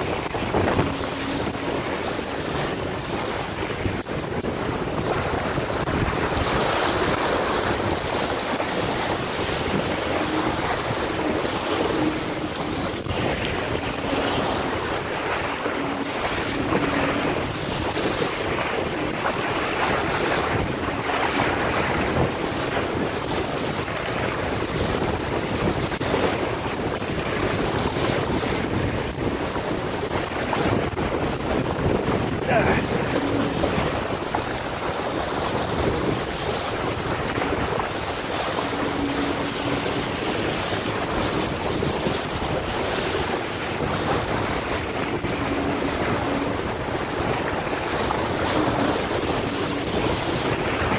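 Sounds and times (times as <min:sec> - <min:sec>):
water splashing against hull: 0:00.0 - 0:50.9
wind buffeting microphone: 0:00.0 - 0:50.9.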